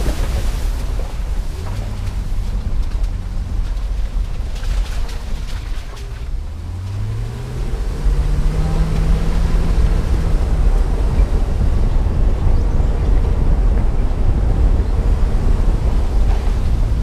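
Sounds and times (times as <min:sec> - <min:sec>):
car engine accelerating: 0:00.0 - 0:17.0
wind on microphone: 0:00.0 - 0:17.0.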